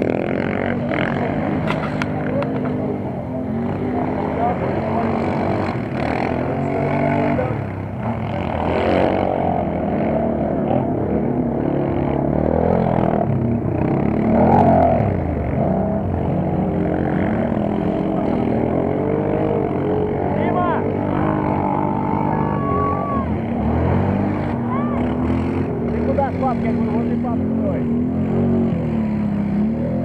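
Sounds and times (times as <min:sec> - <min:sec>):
quad bike engines revving: 0:00.0 - 0:30.0.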